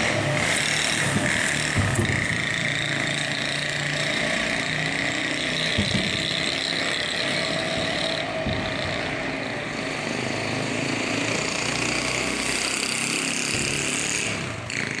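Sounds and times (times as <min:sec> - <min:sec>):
engine-like drone: 0:00.0 - 0:15.0.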